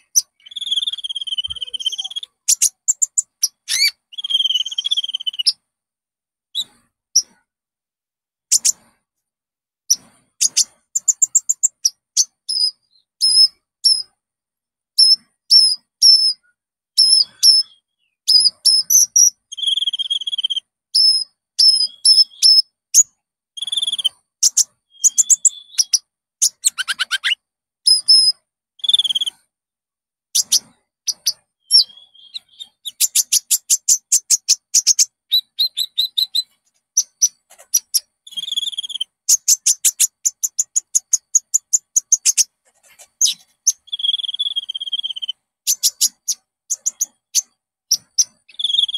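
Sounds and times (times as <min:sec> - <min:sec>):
sunbird singing: 0:00.0 - 0:05.6, 0:09.9 - 0:14.1, 0:15.0 - 0:29.4, 0:30.4 - 0:48.9.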